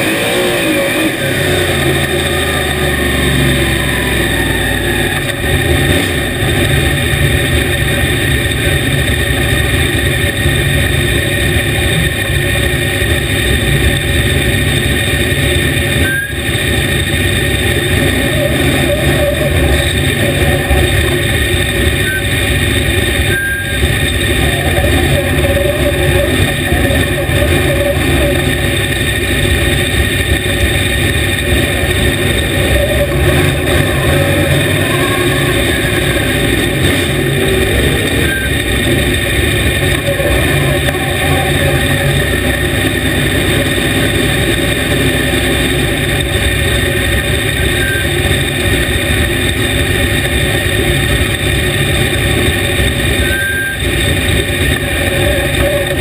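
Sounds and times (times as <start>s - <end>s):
race car engine running loud: 0.0s - 56.0s.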